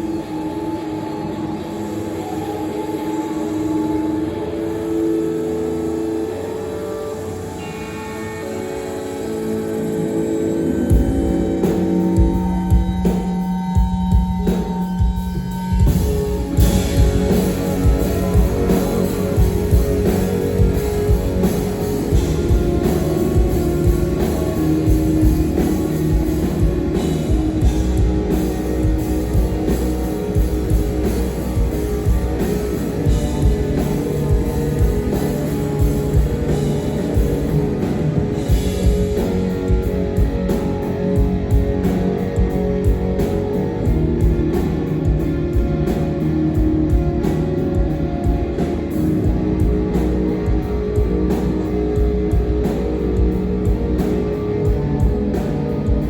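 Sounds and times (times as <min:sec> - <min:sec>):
electric guitar: 0:00.0 - 0:56.0
rock band playing live: 0:00.0 - 0:56.0.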